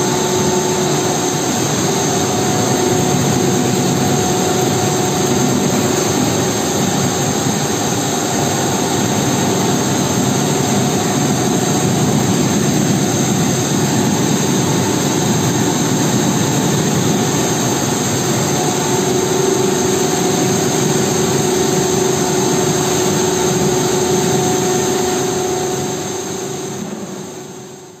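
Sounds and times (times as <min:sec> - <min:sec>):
extrusion machinery drone: 0:00.0 - 0:28.0
high whine: 0:00.0 - 0:28.0.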